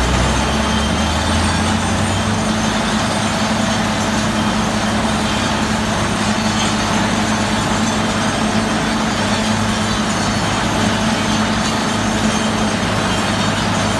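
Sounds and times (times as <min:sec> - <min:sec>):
heavy machine engine running: 0:00.0 - 0:13.9.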